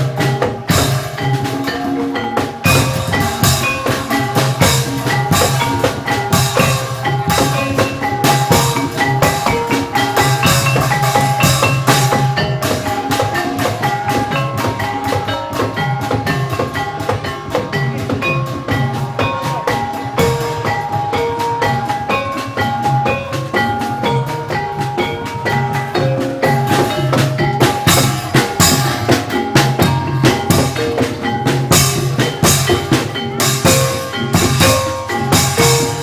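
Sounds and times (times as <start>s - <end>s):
drums: 0.0s - 36.0s
pitched percussion ringing notes: 0.0s - 36.0s.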